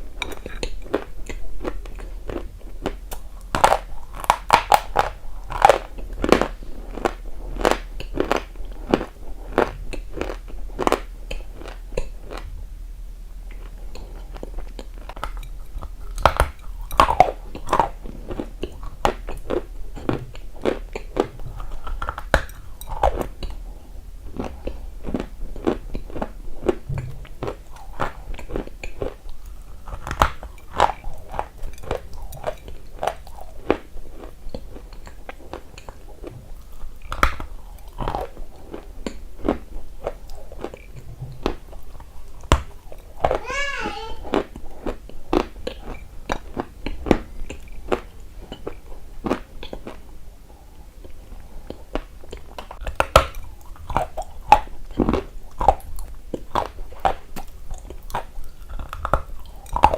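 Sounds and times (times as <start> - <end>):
crunchy clay chewing: 0.0 - 12.6, 13.4 - 43.4, 44.2 - 59.9.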